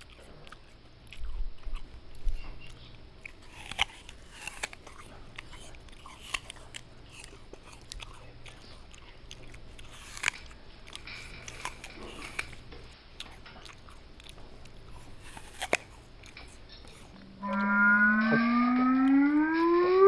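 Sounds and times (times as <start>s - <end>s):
chewing: 0.0s - 17.4s
faint low hum: 0.0s - 20.0s.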